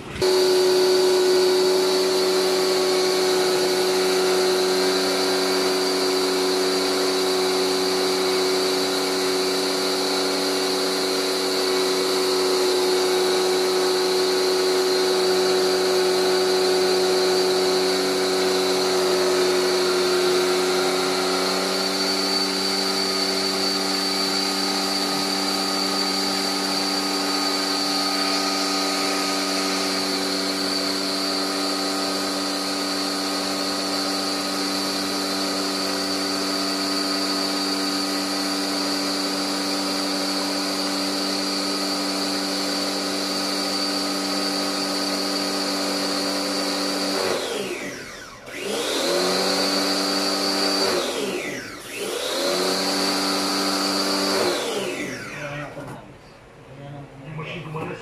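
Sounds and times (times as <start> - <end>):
pressure washer motor whining: 0.0 - 56.6.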